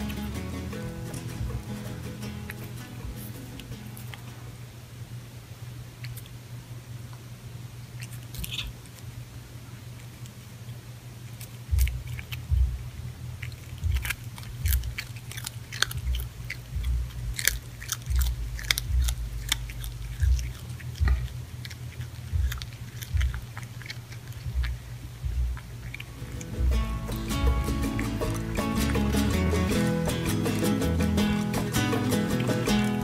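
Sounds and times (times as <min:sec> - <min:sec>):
cat crunching an insect: 0:00.0 - 0:04.3, 0:06.0 - 0:06.4, 0:07.8 - 0:09.2, 0:10.0 - 0:12.5, 0:13.4 - 0:33.0.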